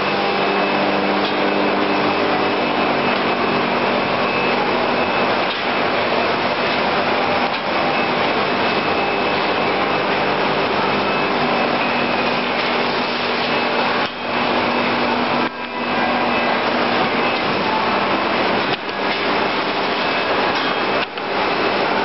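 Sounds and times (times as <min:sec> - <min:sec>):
binding machine whirring: 0:00.0 - 0:22.0.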